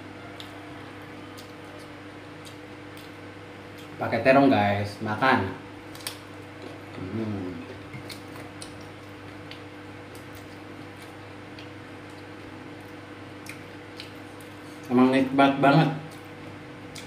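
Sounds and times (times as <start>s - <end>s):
steady low hum: 0.0s - 17.0s
soft chewing: 0.2s - 4.0s, 6.0s - 15.0s, 16.0s - 17.0s.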